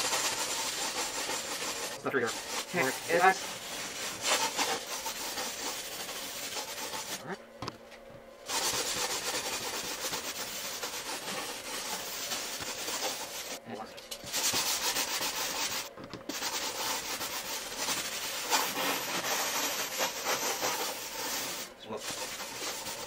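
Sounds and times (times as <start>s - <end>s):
sanding block rubbing glass edge: 0.0s - 7.3s, 8.5s - 13.6s, 14.2s - 23.0s.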